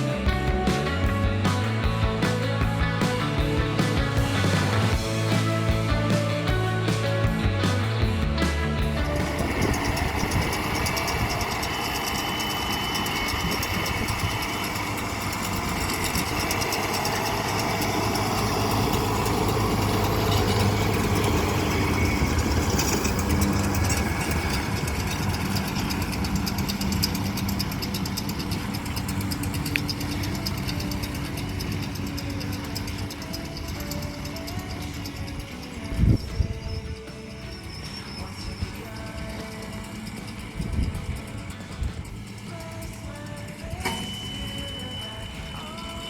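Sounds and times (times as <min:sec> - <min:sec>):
farm vehicle engine running: 0:00.0 - 0:46.0.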